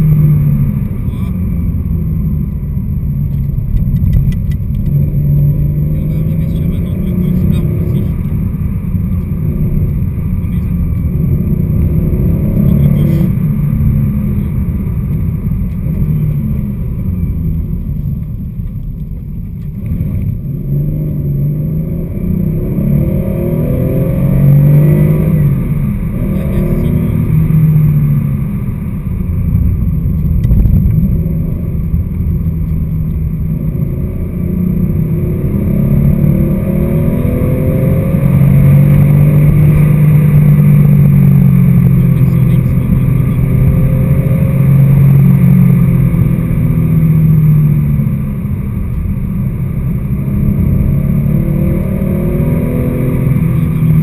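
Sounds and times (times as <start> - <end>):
car engine revving hard: 4.8 - 17.2, 19.8 - 54.0.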